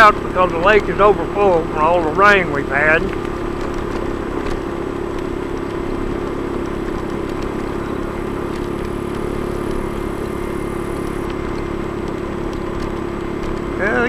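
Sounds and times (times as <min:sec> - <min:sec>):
road noise: 0:00.0 - 0:14.0
scooter motor humming: 0:00.0 - 0:14.0.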